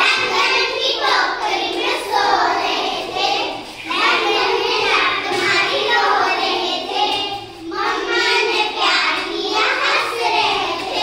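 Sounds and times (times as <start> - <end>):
girls singing together: 0.0 - 11.0.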